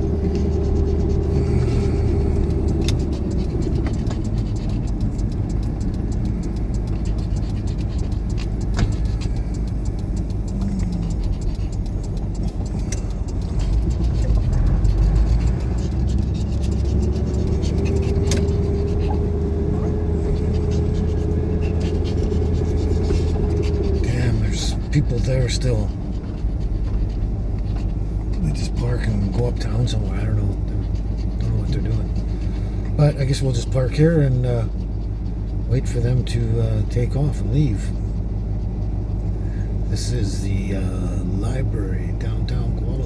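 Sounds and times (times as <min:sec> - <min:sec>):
truck engine and road rumble: 0:00.0 - 0:43.0.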